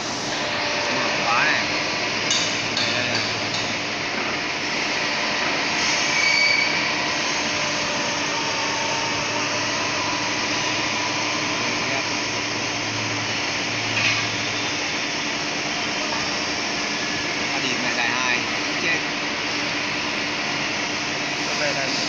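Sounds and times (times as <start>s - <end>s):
machinery whirring hiss: 0.0s - 22.0s.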